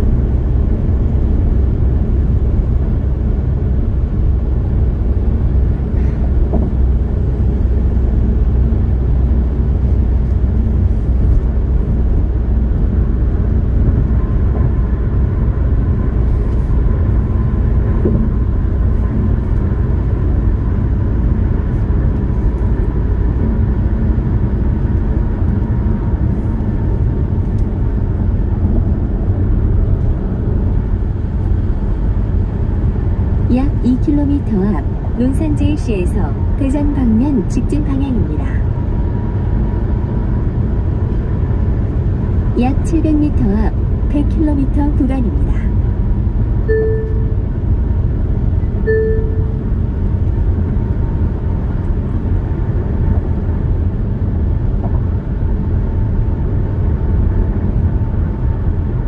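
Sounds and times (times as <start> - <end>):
faint steady whine: 0.0 - 54.1
car cruising on highway: 0.0 - 59.0.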